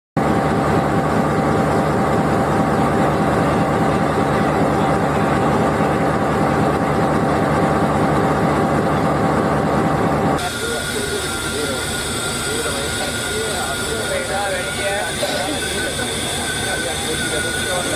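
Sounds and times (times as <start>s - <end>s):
diesel locomotive engine idling: 0.2s - 17.9s
thin steady whine: 0.2s - 17.9s.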